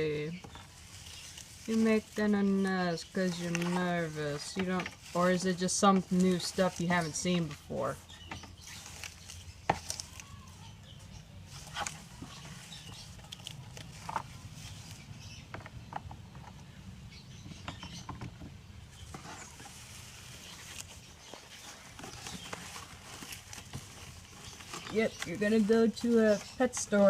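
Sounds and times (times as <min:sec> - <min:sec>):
bird scratching in wood shavings: 0:00.0 - 0:15.4, 0:18.9 - 0:27.0.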